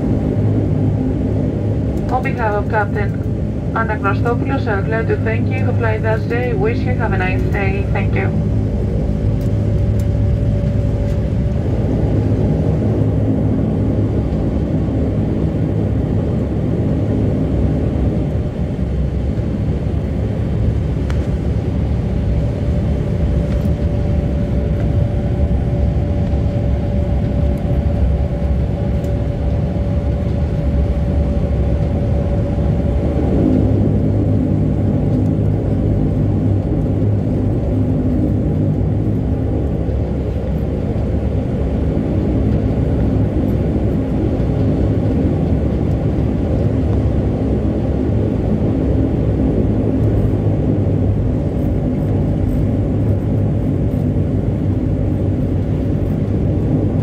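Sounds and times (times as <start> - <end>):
turboprop engine droning in cabin: 0.0 - 57.0.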